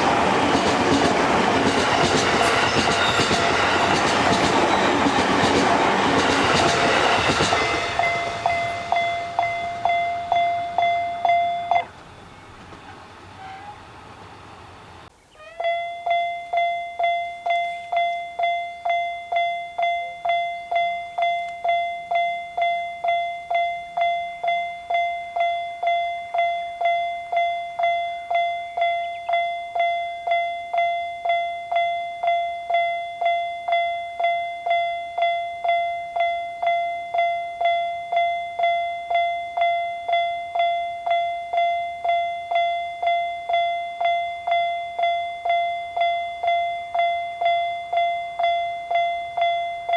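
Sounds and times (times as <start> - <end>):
level-crossing warning bell ringing: 0.0 - 14.0, 15.4 - 49.9.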